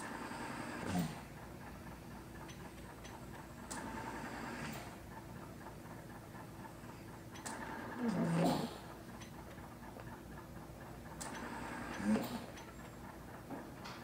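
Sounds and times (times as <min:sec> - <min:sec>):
ventilator click and air rush: 0:00.0 - 0:14.0
faint ticking: 0:01.2 - 0:14.0.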